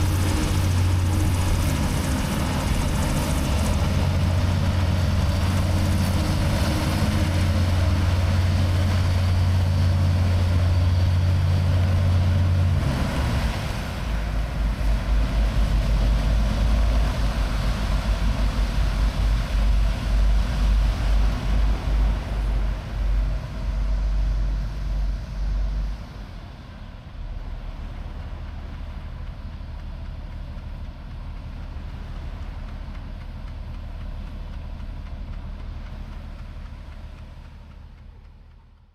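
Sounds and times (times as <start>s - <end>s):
hovercraft engines humming: 0.0s - 38.9s
pulsing engine throb: 0.0s - 38.9s.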